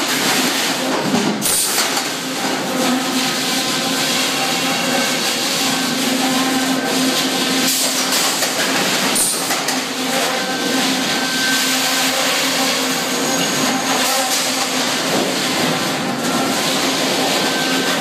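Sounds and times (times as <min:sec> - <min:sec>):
sawmill machinery drone: 0:00.0 - 0:18.0.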